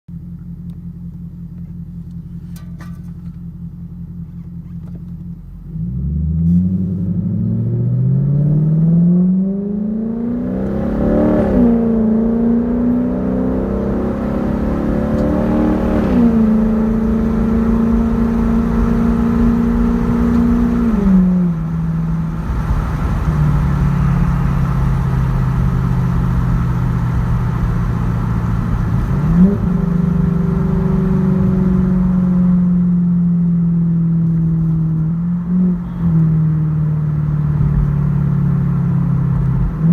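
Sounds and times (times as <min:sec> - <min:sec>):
car engine idling and accelerating: 0:00.1 - 0:39.9.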